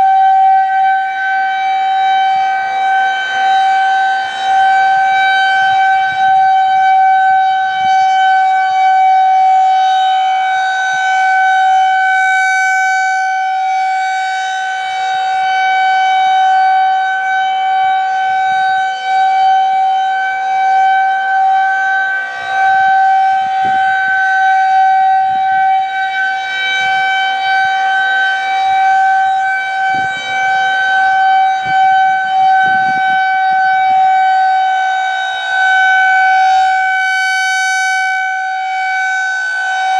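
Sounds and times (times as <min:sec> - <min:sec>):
rotating siren steady tone: 0:00.0 - 0:39.9.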